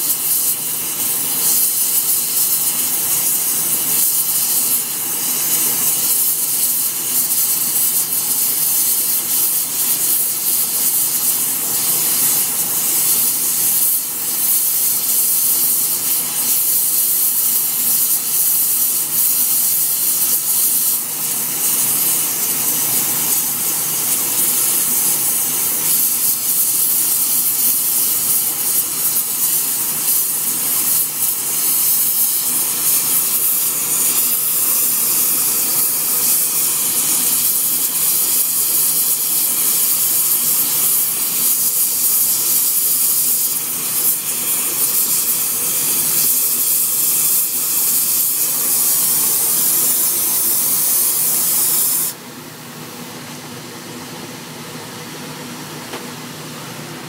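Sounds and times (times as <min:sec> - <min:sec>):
torch flame hissing: 0:00.0 - 0:57.0.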